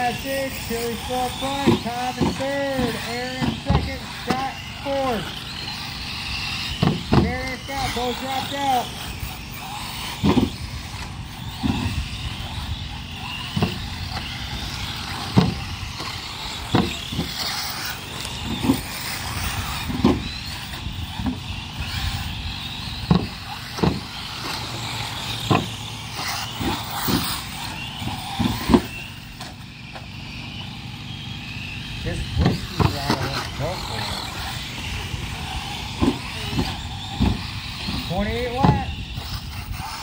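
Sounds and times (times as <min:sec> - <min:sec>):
cars thumping: 0:00.0 - 0:40.0
high-pitched motor whines: 0:00.0 - 0:40.0
rc car motors humming: 0:00.0 - 0:40.0.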